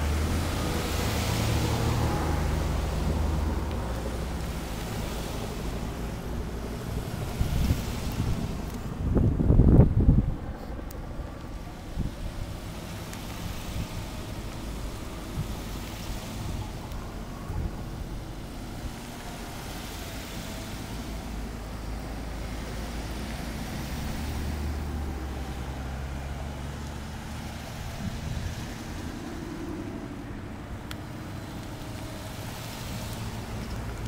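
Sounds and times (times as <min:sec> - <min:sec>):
cars and vans driving past: 0:00.0 - 0:34.0.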